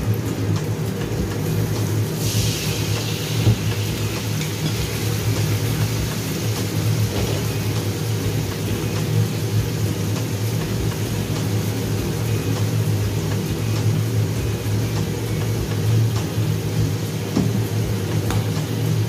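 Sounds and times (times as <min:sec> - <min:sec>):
constant low hum: 0:00.0 - 0:19.0
fish sizzling in hot oil: 0:00.0 - 0:19.0.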